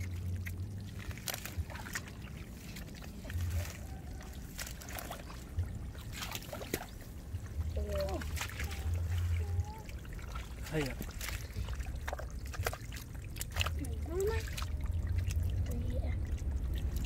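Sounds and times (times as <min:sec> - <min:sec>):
hands squelching in wet mud: 0:00.0 - 0:17.0
small water splashes: 0:00.0 - 0:17.0.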